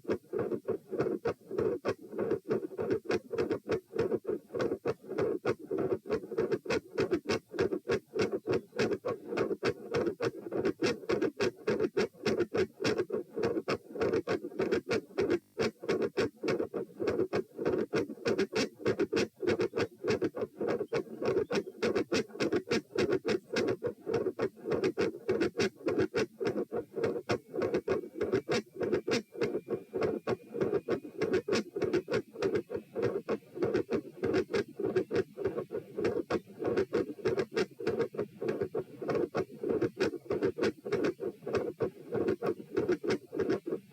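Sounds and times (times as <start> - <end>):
fast heartbeat through stethoscope: 0.0 - 43.9.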